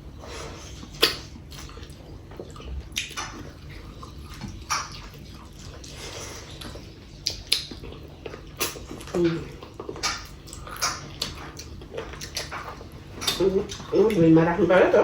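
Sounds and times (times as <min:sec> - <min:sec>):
chewing and lip smacks: 0:00.6 - 0:14.2.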